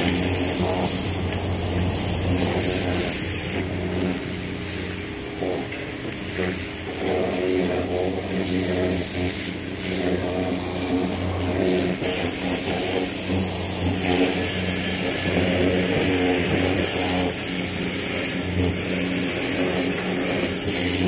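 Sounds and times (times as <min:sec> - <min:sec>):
motor running: 0:00.0 - 0:21.0
water spraying hiss: 0:00.0 - 0:21.0.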